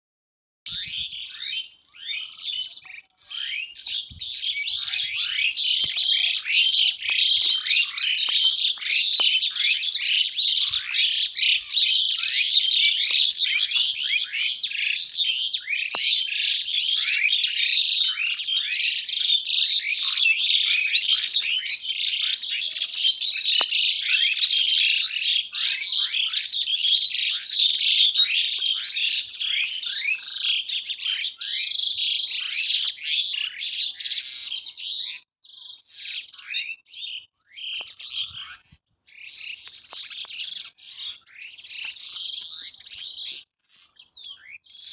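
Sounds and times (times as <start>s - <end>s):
small birds chirping: 0.7s - 44.9s.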